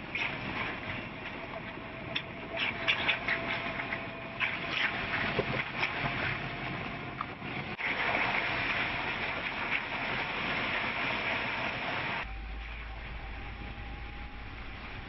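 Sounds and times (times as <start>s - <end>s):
vehicle running and tyre noise: 0.0s - 15.0s.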